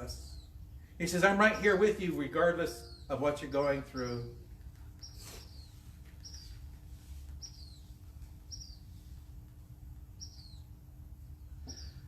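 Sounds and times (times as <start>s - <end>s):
bird chirping: 0.0s - 12.0s
faint steady hum: 0.0s - 12.0s.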